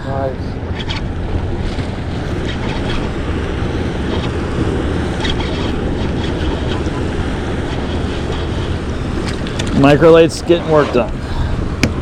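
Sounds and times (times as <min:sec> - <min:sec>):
water sloshing against boat hull: 0:00.0 - 0:12.0
wind buffeting microphone: 0:00.0 - 0:12.0.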